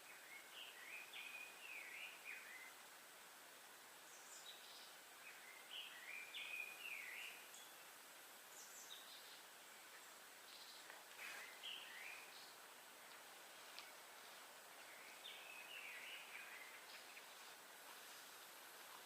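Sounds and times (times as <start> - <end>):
small birds chirping: 0.0 - 2.9, 3.9 - 19.0
steady background hiss: 0.0 - 19.0.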